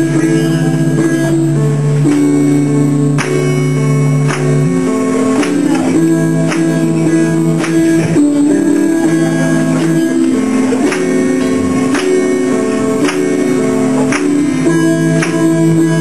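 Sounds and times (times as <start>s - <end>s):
guitar chords strummed: 0.0s - 16.0s.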